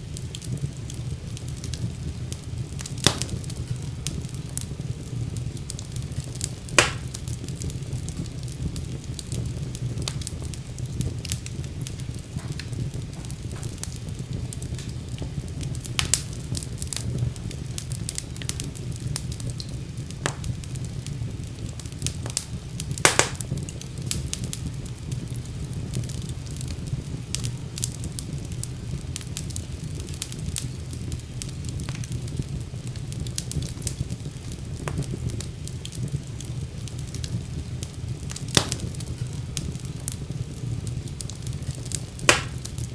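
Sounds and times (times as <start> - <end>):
fire crackles and pops: 0.0 - 42.9
wood fire rumbling: 0.0 - 42.9.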